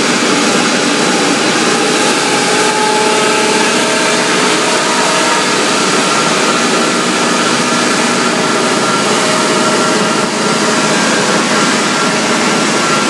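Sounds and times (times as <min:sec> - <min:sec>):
loud steady machine drone: 0:00.0 - 0:13.0.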